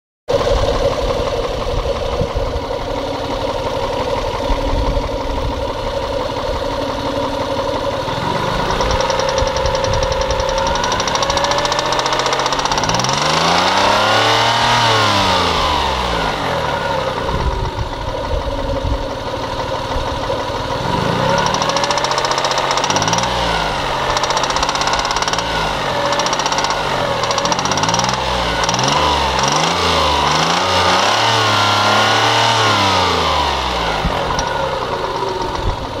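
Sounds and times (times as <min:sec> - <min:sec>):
engine knock: 0:00.3 - 0:36.0
engine revving: 0:00.3 - 0:36.0.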